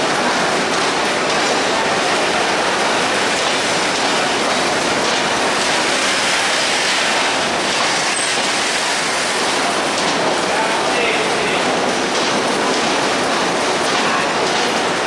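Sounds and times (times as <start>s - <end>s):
freight train wheels on rail: 0.0s - 15.0s.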